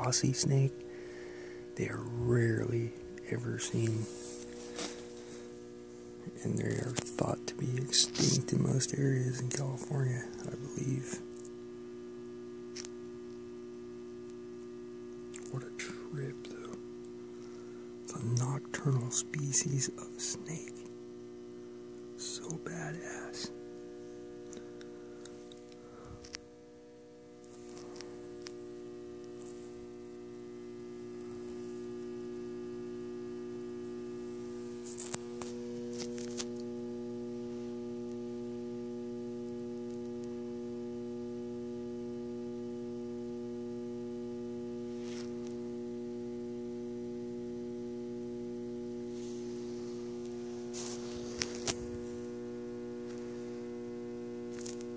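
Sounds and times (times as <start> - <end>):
steady electrical hum: 0.0 - 54.9.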